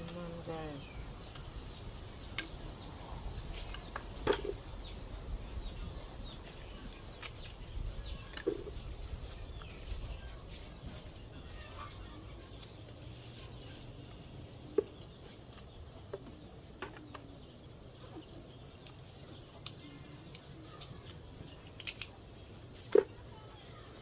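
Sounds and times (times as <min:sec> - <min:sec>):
chickens clucking: 0:00.0 - 0:24.0
small birds chirping: 0:00.0 - 0:24.0.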